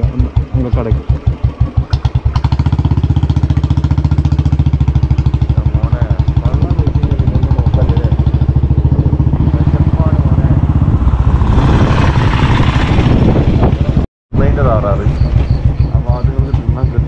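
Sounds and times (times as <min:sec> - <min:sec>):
motorcycle engine idling: 0:00.0 - 0:11.4, 0:12.8 - 0:17.0.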